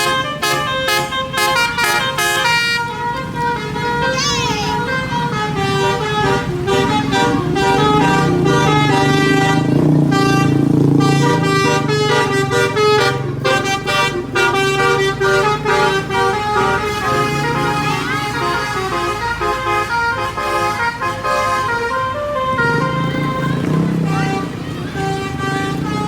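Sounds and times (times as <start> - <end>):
bus engine running: 0.0 - 26.0
bus musical horn melody: 0.0 - 26.0.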